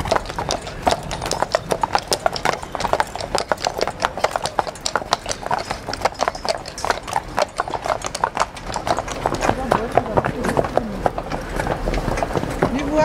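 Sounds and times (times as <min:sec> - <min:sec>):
horse hooves clip-clopping: 0:00.0 - 0:13.0.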